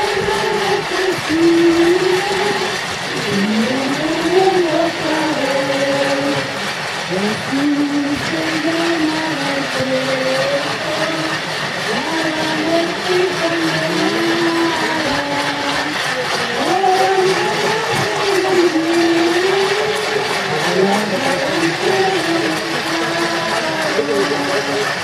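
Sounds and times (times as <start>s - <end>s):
crowd singing a hymn: 0.0s - 25.0s
murmur of people: 0.0s - 25.0s.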